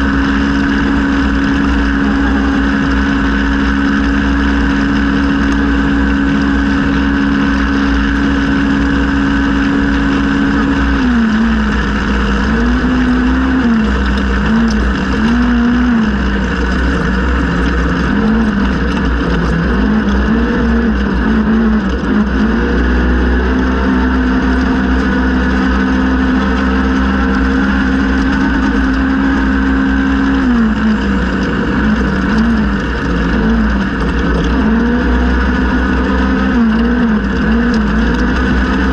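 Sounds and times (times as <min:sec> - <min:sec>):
engine revving hard: 0:00.0 - 0:38.9
low rumbling noise: 0:00.0 - 0:38.9.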